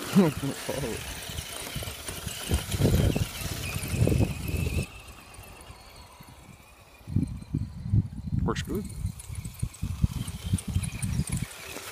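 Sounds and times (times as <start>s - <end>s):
electric motor whining: 0.0s - 11.9s.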